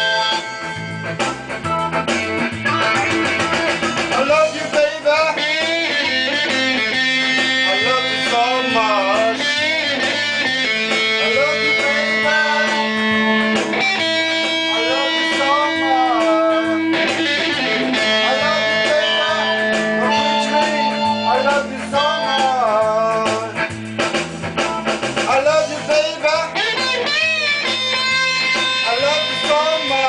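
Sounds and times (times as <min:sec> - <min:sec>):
guitar with bent notes: 0:00.0 - 0:30.0.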